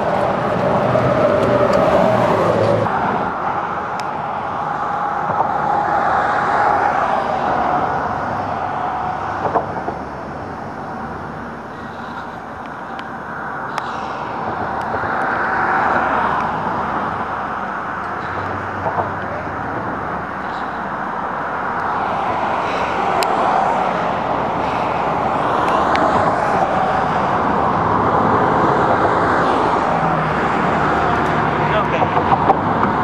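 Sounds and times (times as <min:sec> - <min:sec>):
highway traffic rushing: 0:00.0 - 0:33.0.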